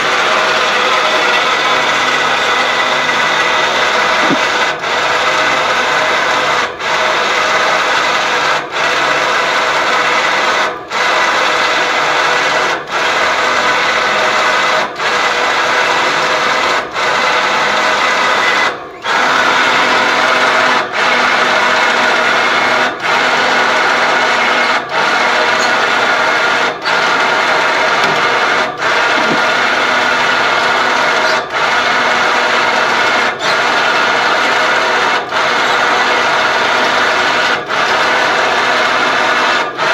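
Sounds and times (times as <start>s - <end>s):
electric winch motor whirring: 0.0s - 39.9s.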